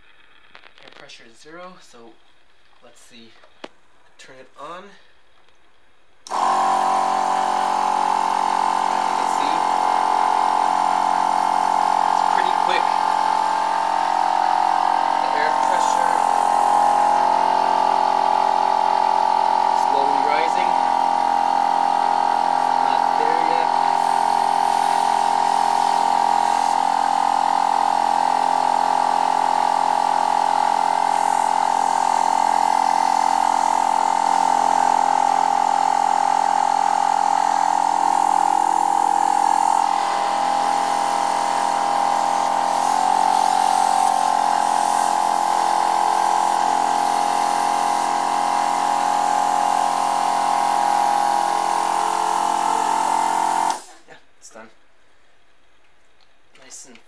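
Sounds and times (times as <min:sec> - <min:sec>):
air compressor whining: 0:06.2 - 0:54.2.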